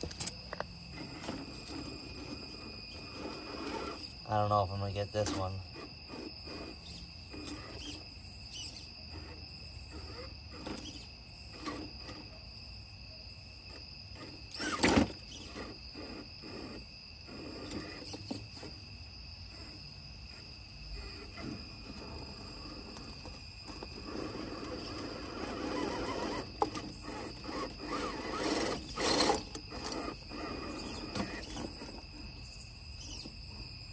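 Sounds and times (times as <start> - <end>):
small electric motor whirring: 0.0 - 4.5, 5.1 - 12.3, 13.7 - 18.8, 19.5 - 33.6
crickets trilling: 0.0 - 33.9.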